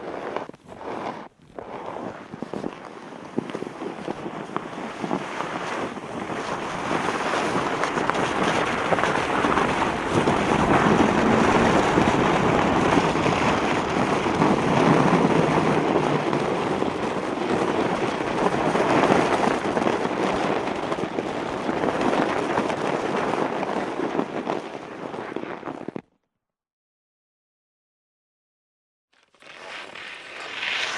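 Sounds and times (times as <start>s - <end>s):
skis sliding over snow: 0.0s - 26.0s, 29.2s - 30.9s.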